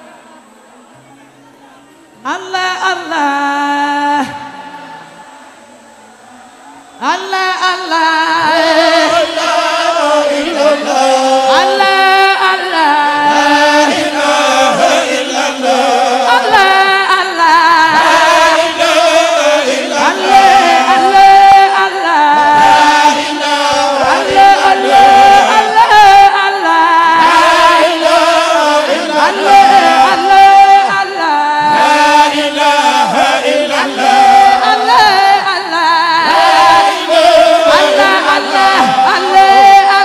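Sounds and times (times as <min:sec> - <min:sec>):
woman singing a devotional chant: 0:02.2 - 0:05.4, 0:06.9 - 0:40.0.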